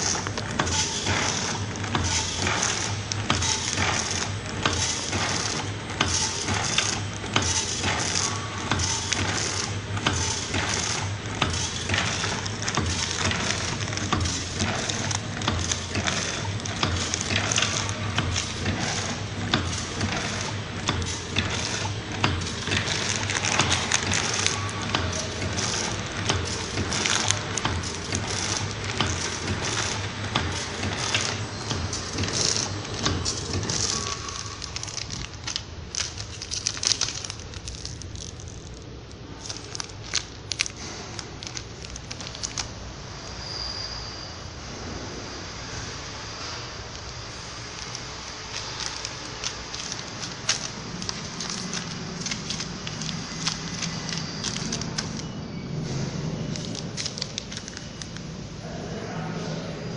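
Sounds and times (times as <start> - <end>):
packing machine clicks and rustling: 0.0 - 42.9, 46.4 - 58.4
plastic pouches crinkling: 0.0 - 42.9, 46.9 - 58.3.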